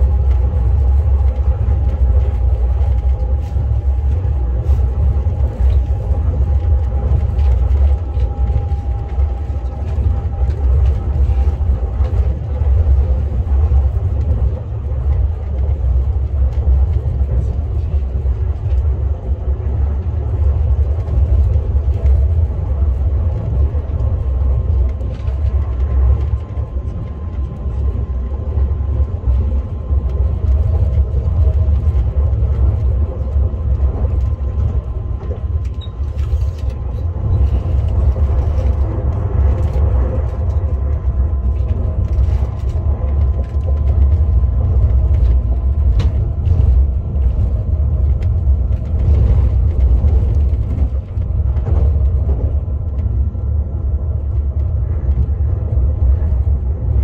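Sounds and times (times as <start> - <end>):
high-speed train rumble: 0.0 - 57.0.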